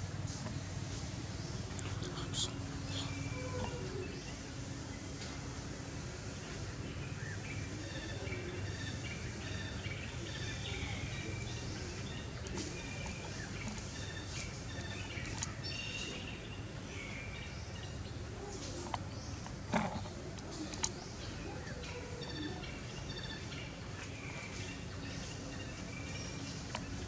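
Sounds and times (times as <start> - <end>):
steady background noise: 0.0 - 27.0
small birds chirping: 0.2 - 27.0.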